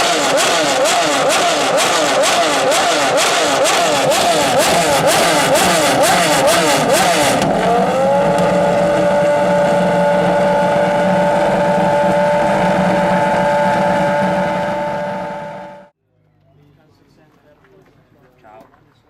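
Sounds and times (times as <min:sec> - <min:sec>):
car engine revving: 0:00.0 - 0:15.9
exhaust popping and crackling: 0:00.0 - 0:15.9.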